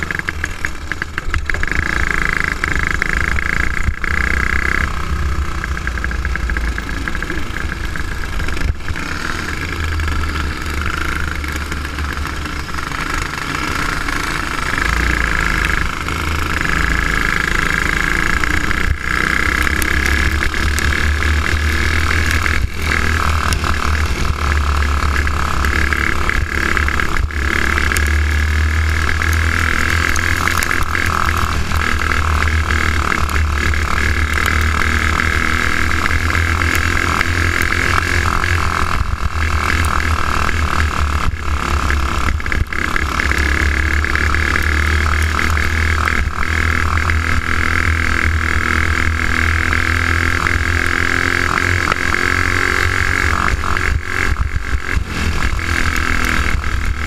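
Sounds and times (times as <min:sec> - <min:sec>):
go-kart engine running hard: 0:00.0 - 0:57.0.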